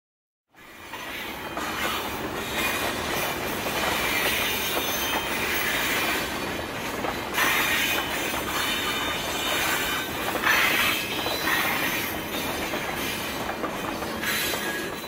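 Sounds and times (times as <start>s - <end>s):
model train rattling on track: 0.6s - 15.0s.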